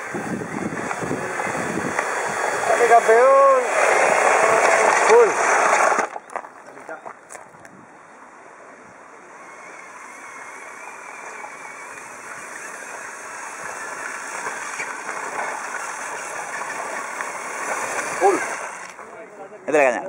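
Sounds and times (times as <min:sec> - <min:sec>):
toy tractor motor whine: 0:00.0 - 0:06.3, 0:09.2 - 0:19.1.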